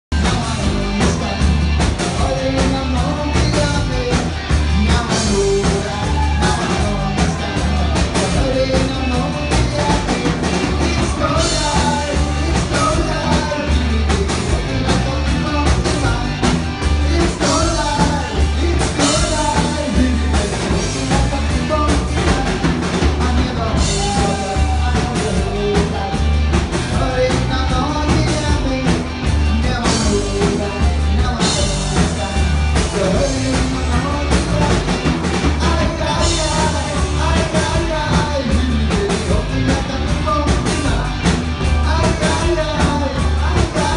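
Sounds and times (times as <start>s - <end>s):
rock song with singing: 0.1s - 43.9s.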